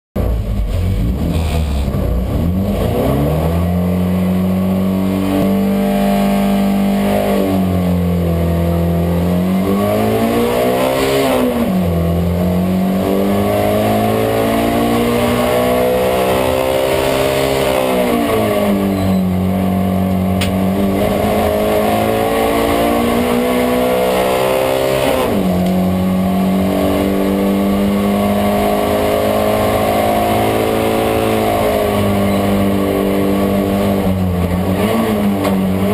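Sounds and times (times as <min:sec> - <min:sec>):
race car engine accelerating: 0:00.2 - 0:35.9.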